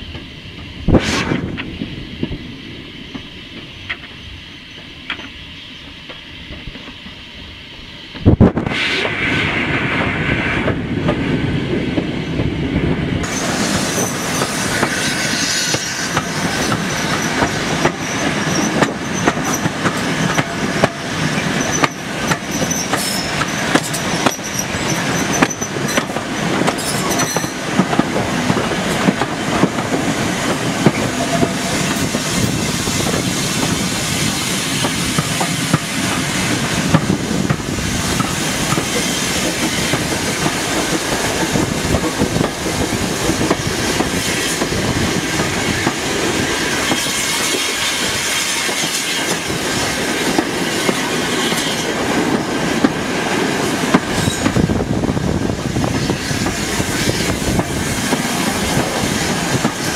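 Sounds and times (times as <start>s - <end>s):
train wheels clickety-clack: 3.1s - 7.2s, 13.2s - 59.9s.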